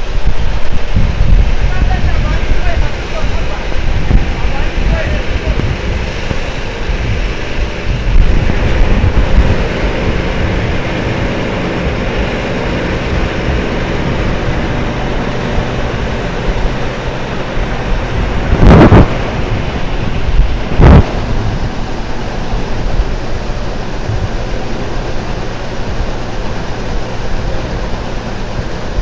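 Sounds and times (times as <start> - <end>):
low hum: 0.0 - 29.0
plant machinery din: 0.0 - 29.0.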